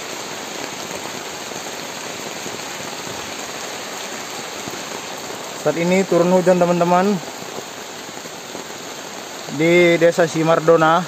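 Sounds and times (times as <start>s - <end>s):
heavy rain on tarpaulin: 0.0s - 11.0s.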